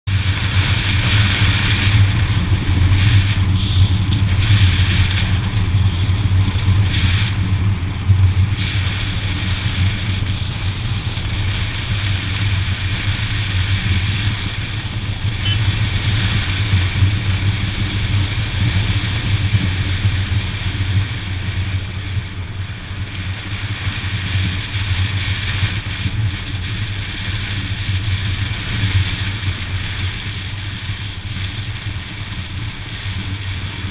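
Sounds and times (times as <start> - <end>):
motorcycle engine running: 0.0 - 33.9
wind rush on microphone: 0.1 - 33.9.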